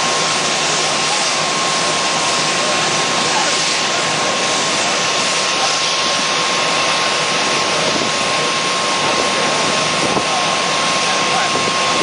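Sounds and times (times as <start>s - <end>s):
hose streams spraying: 0.0s - 11.9s
fire engine pumping water: 0.0s - 12.0s.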